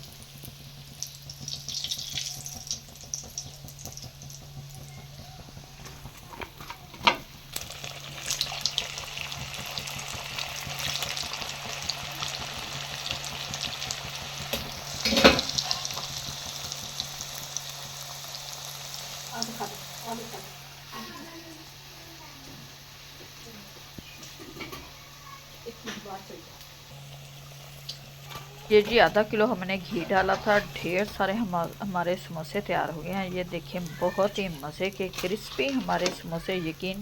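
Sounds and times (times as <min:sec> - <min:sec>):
deep-frying sizzle and crackle: 0:00.0 - 0:37.0.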